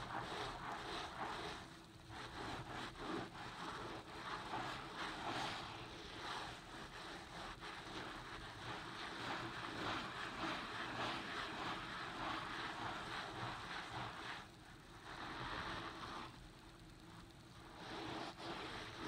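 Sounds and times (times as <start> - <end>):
sponge scrubbing wet lather: 0.0 - 16.4, 17.2 - 19.0.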